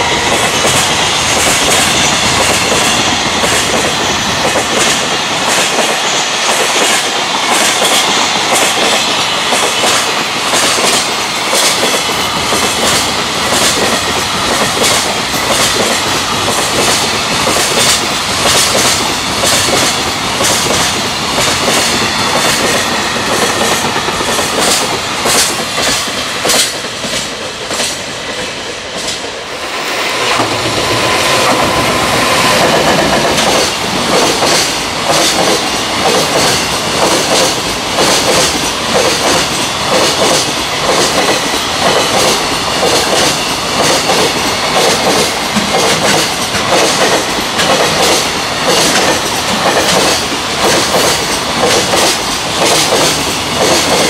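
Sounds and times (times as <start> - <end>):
train wheels clattering over joints: 0.0 - 29.3, 30.3 - 54.0.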